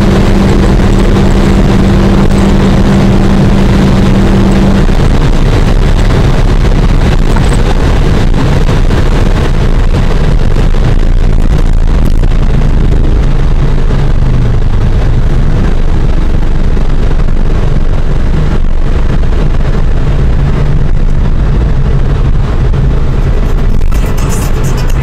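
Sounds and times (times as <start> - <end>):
car engine running: 0.0 - 25.0
wind and road noise: 0.0 - 25.0.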